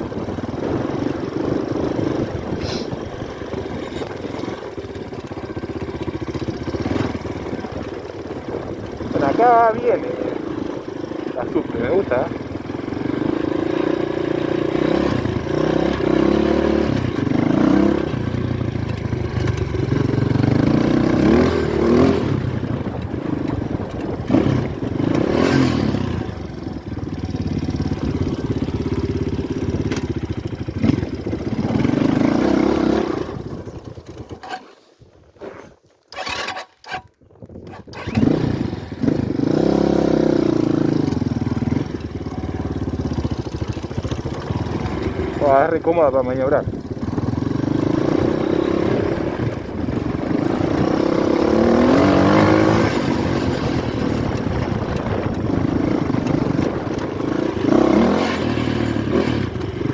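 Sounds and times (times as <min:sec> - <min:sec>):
motorcycle engine revving: 0:00.0 - 0:34.7, 0:35.4 - 0:59.9.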